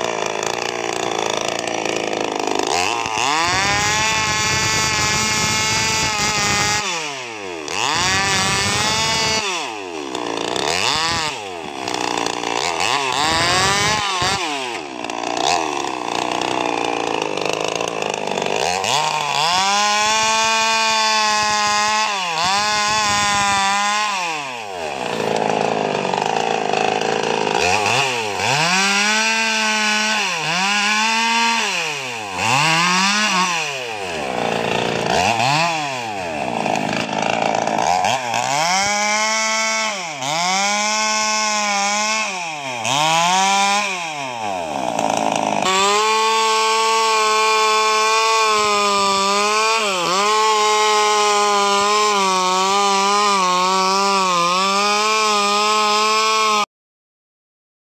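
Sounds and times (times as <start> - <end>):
chainsaw cutting logs: 0.0 - 56.7.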